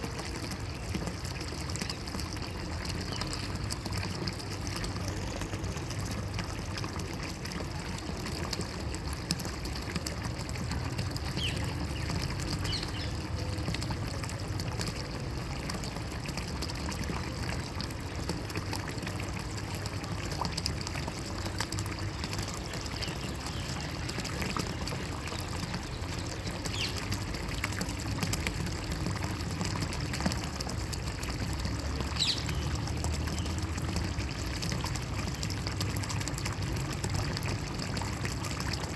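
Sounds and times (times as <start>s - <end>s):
water trickling and pouring: 0.0s - 38.9s.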